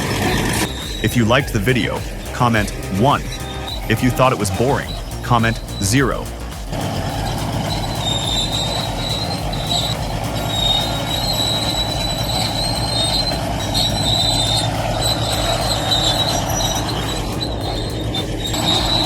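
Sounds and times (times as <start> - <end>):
diesel engine rumble: 0.0 - 19.0
steel tracks squealing: 0.0 - 19.0.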